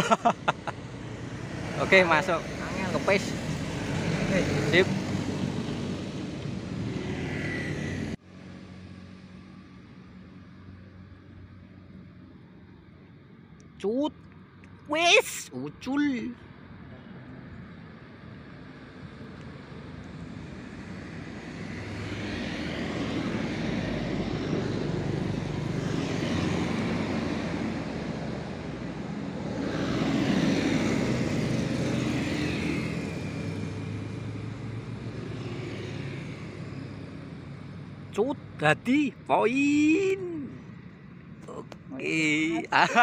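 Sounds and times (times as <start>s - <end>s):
vehicles passing by: 0.0s - 43.0s.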